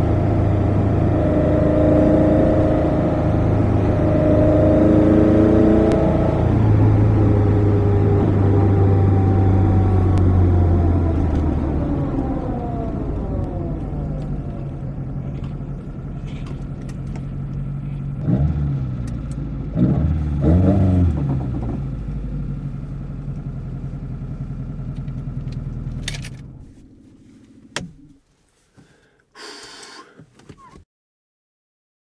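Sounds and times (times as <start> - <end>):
car engine idling and revving: 0.0 - 30.8.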